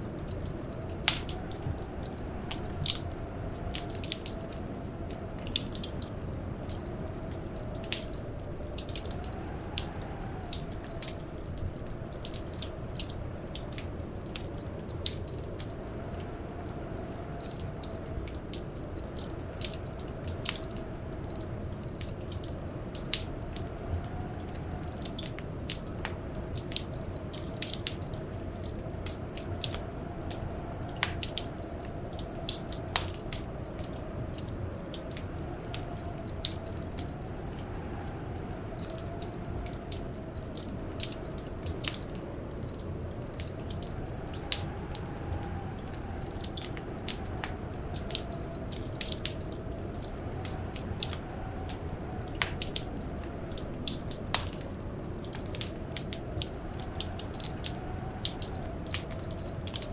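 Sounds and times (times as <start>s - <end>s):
blizzard wind howling: 0.0s - 59.9s
wood fire crackling and popping: 0.0s - 59.9s.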